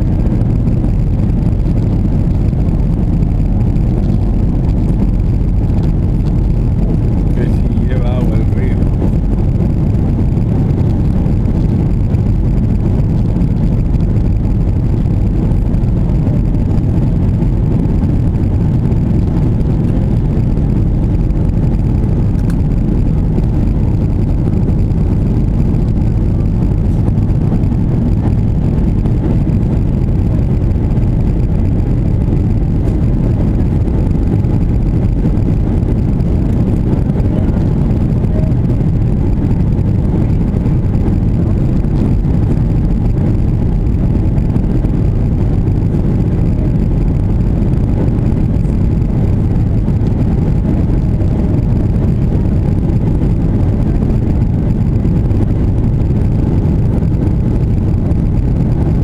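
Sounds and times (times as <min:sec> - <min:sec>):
airliner jet engines rumbling: 0:00.0 - 0:59.0.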